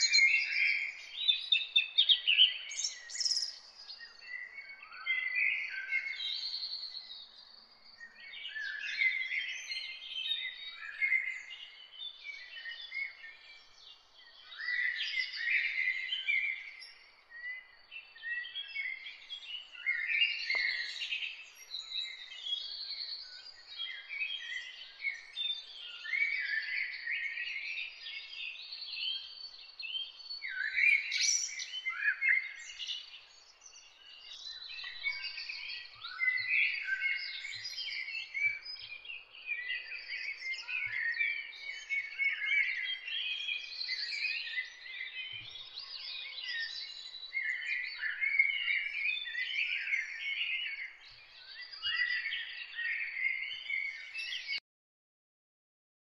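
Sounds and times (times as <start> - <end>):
birds chirping and twittering: 0.0 - 54.6.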